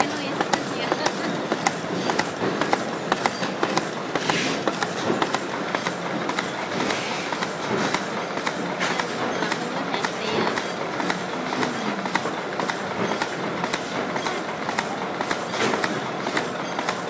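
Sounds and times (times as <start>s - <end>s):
machine rumble and hiss: 0.0s - 17.0s
rapid sharp clicks: 0.0s - 17.0s.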